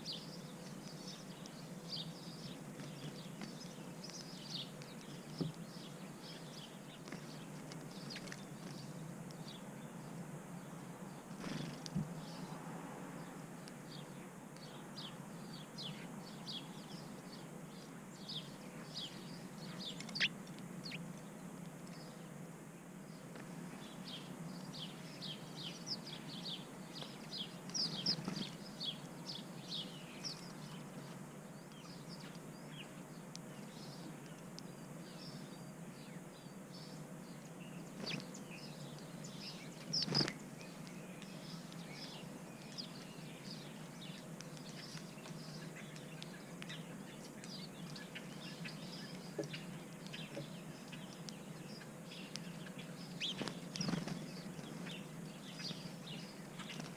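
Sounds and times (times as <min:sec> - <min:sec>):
songbirds chirping: 0:00.0 - 0:56.9
steady low hum: 0:00.0 - 0:56.9.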